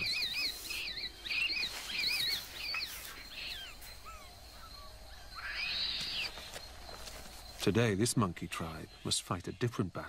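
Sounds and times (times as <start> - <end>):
birds singing: 0.0 - 10.0.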